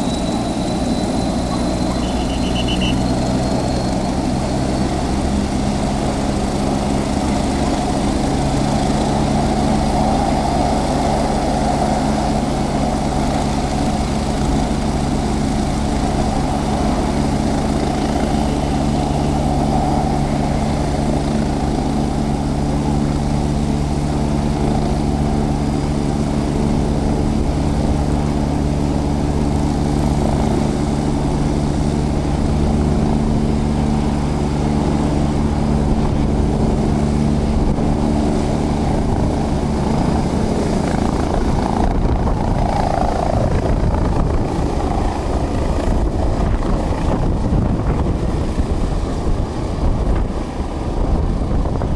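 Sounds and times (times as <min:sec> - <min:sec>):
helicopter turbines and rotor: 0:00.0 - 0:51.9.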